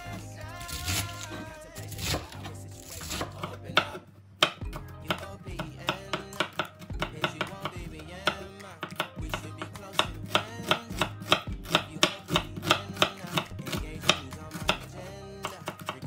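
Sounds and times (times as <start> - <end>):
background music: 0.0 - 16.0
knife slicing carrots on a board: 0.6 - 16.0.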